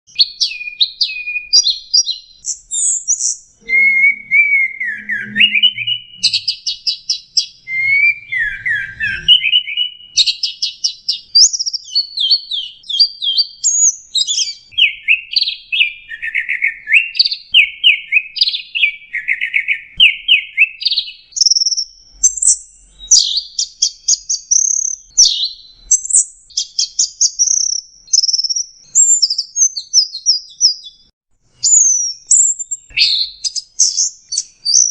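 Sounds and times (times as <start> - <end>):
bird singing chattering phrases: 0.1 - 31.0.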